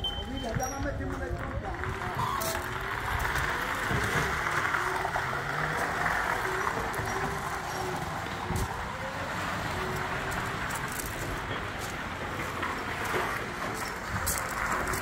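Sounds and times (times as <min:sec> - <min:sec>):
vehicle engine running evenly: 0:01.9 - 0:15.0.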